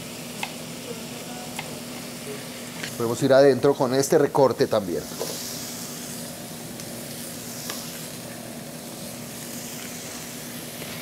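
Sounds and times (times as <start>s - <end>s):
sizzling in a pot: 0.0s - 11.0s.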